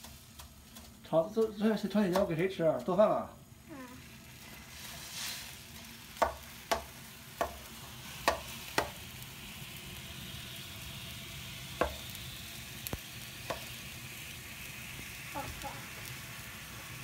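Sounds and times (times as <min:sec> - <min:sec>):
snow sizzling in hot wok: 0:00.0 - 0:17.0.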